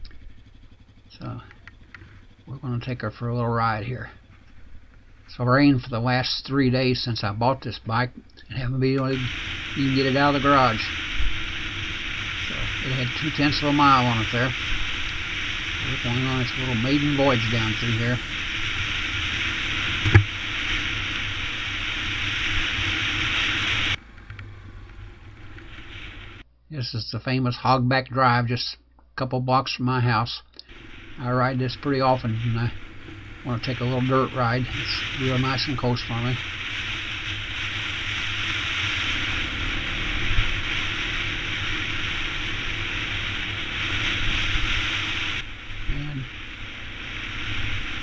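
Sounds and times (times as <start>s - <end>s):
wind and road noise: 0.0s - 26.5s, 30.7s - 48.0s
motorcycle engine drone: 0.0s - 27.0s, 30.0s - 48.0s.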